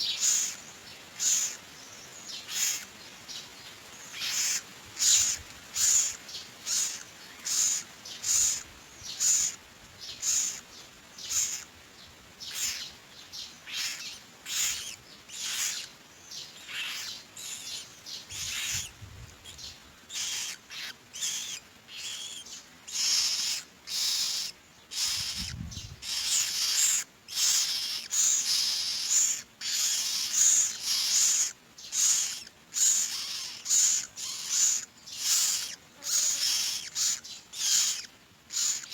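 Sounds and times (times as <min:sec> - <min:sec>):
nestlings rasping begging calls: 0:00.0 - 0:38.9.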